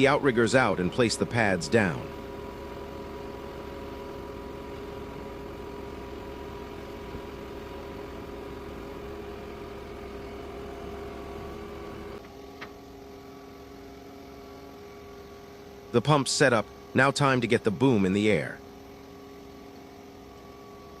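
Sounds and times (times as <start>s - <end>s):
pump engine humming and whining: 0.0s - 21.0s.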